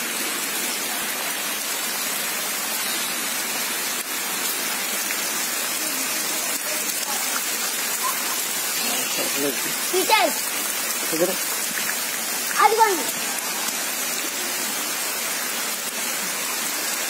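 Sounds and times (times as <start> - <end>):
rain on wet ground: 0.0 - 17.0.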